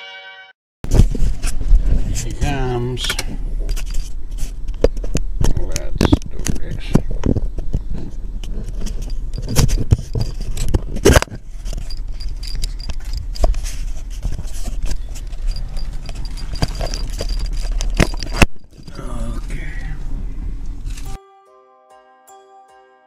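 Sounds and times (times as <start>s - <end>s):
steady low hum: 1.0s - 21.1s.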